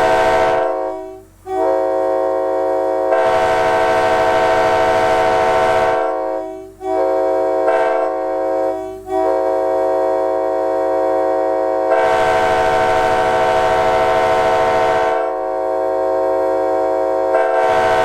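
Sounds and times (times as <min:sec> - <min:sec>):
locomotive air horn: 0:00.0 - 0:18.0.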